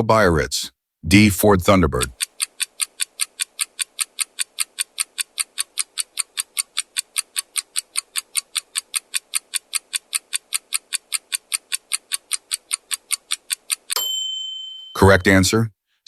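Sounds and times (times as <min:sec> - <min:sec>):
clock ticking: 0:01.1 - 0:14.0.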